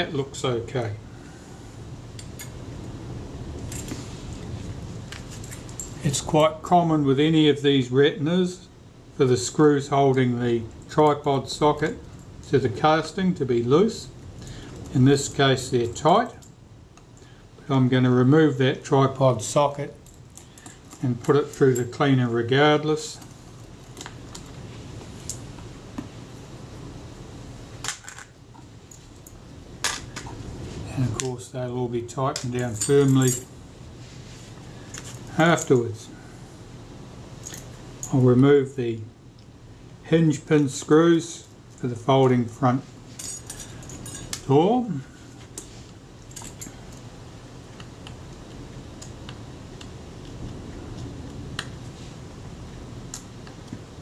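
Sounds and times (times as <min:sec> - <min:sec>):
steady low background noise: 0:00.0 - 0:54.0
steady low hum: 0:00.0 - 0:54.0.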